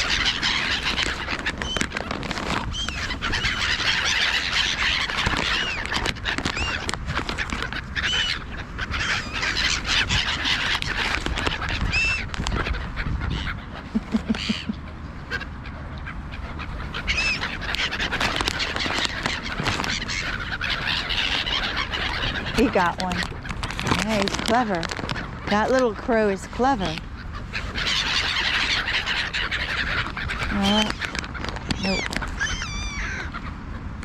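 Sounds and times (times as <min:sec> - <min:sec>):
ducks calling: 0:00.0 - 0:34.0
water birds crying harshly: 0:00.0 - 0:34.0.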